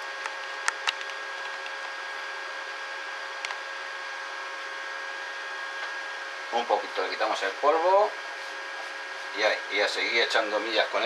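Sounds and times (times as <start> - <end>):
welder cooling fan whine: 0.0 - 11.0.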